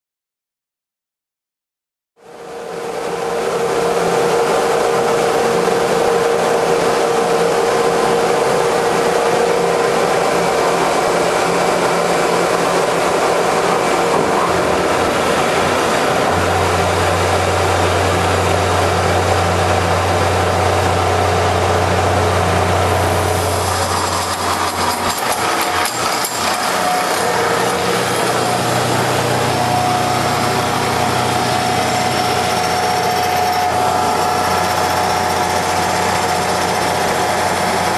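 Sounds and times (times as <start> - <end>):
lathe mechanical whir: 2.2 - 37.9.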